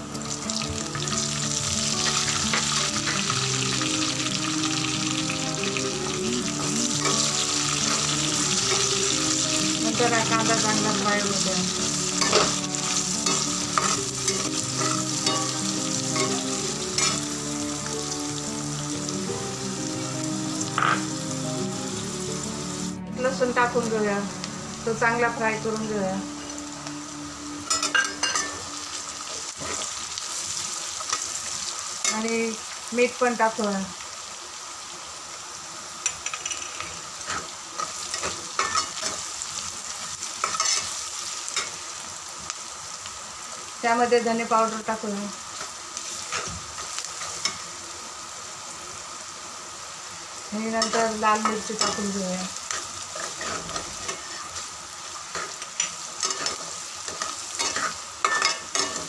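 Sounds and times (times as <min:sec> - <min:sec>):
onions sizzling in hot oil: 0:00.0 - 0:59.0.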